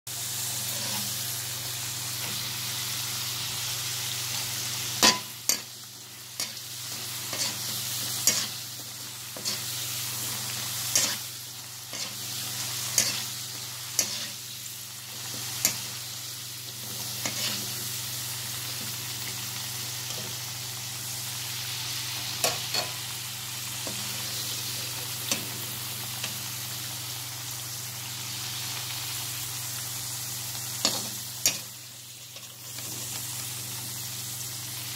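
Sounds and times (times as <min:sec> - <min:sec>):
potatoes sizzling in oil: 0:00.1 - 0:34.9.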